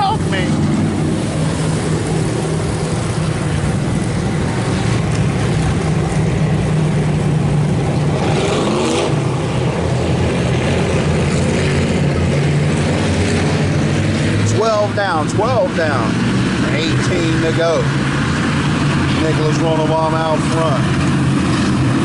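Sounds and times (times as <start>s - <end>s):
race car engines running: 0.0s - 22.0s.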